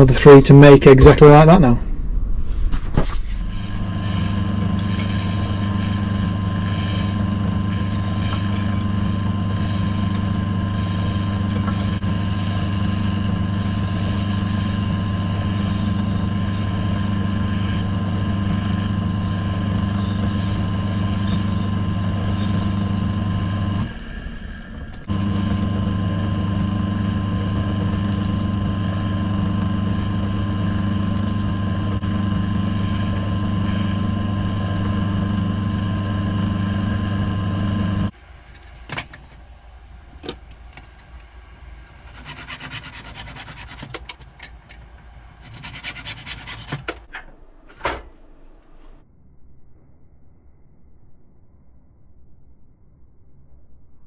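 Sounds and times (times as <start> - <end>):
lathe motor humming: 3.2 - 47.1.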